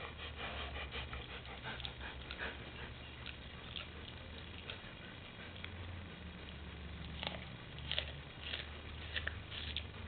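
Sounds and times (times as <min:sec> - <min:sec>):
dog sniffing and mouthing fish: 0:00.0 - 0:10.0.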